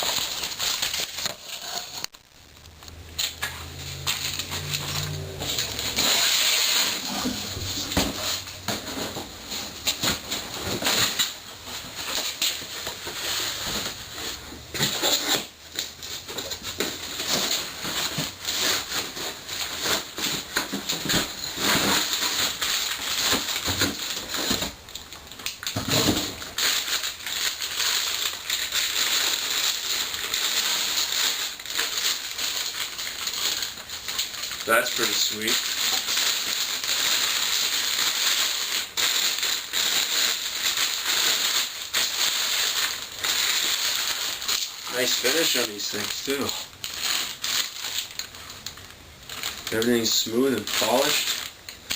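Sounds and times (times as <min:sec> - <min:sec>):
packing material rustling: 0:00.0 - 0:51.9.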